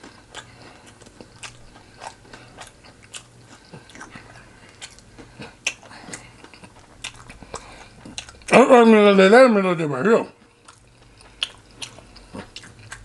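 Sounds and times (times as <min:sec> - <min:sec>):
chewing crisp fried chicken: 0:00.0 - 0:09.1, 0:10.3 - 0:13.0
faint steady hum: 0:00.0 - 0:13.0
wet mouth clicks: 0:00.4 - 0:08.5, 0:10.7 - 0:13.0.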